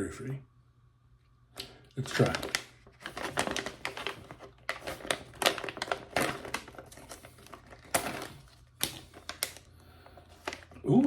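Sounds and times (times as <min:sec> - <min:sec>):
snack bag crinkling: 0:01.6 - 0:10.8.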